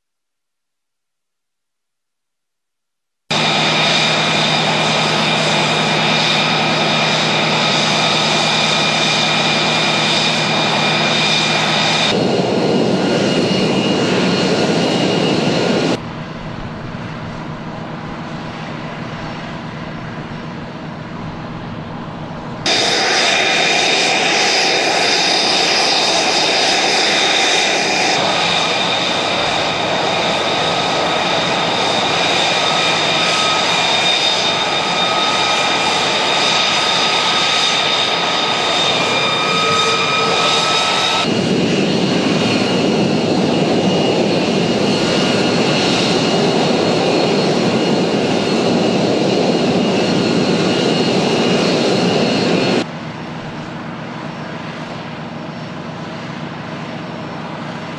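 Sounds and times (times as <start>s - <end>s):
jet engine rushing with turbine whine: 3.3s - 57.9s.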